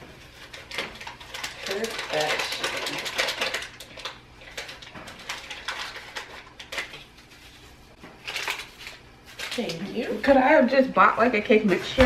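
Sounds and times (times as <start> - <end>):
rustling and scraping in metal bowl: 0.0 - 12.0.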